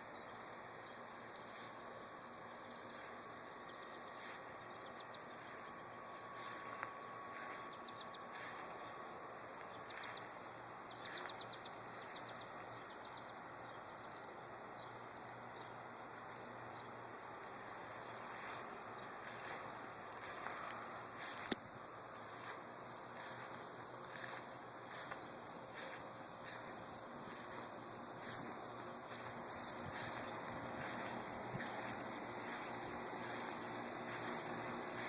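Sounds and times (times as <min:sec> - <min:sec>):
outdoor background hiss: 0:00.0 - 0:35.0
small bird chirping: 0:00.0 - 0:35.0.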